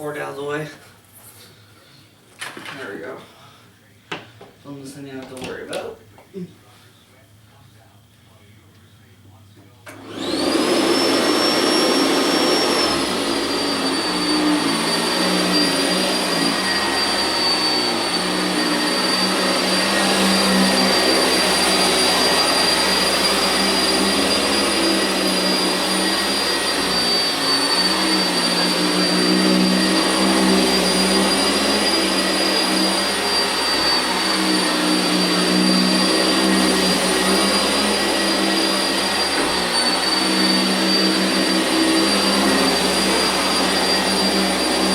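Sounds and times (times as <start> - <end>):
upright vacuum cleaner running: 4.1 - 6.0, 9.8 - 44.9.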